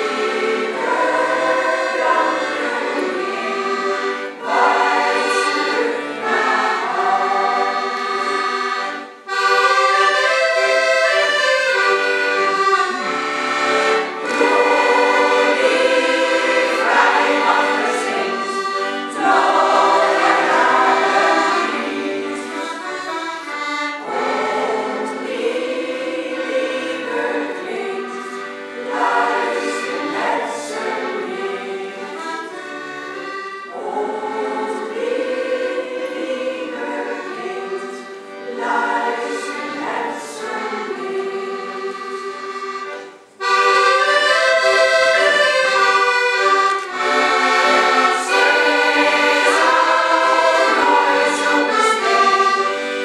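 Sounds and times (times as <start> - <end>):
accordion: 0.0 - 53.0
women's choir singing: 0.0 - 53.0.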